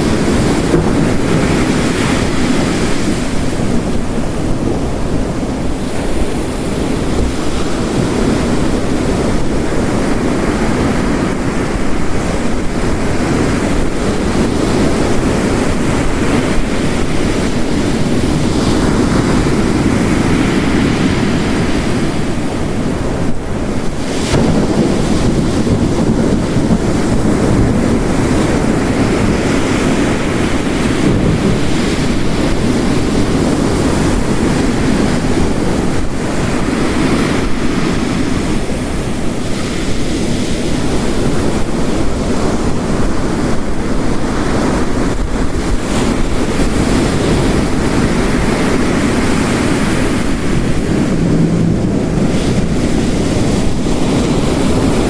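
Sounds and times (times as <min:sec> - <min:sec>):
heavy rain: 0:00.0 - 0:55.0
ocean waves crashing: 0:00.0 - 0:55.0.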